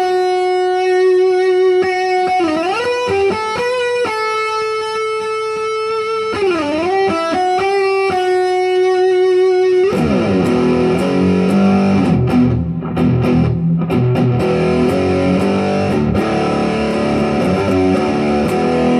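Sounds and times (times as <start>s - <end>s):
distorted electric guitar riff: 0.0s - 18.9s.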